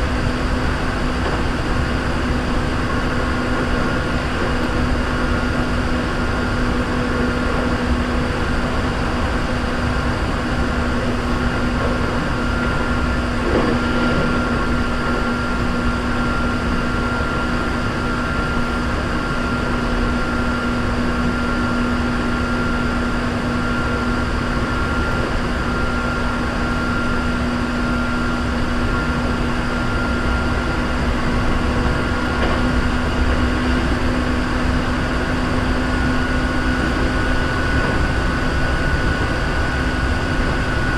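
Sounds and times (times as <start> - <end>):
train cabin rumble with whine: 0.0 - 40.9.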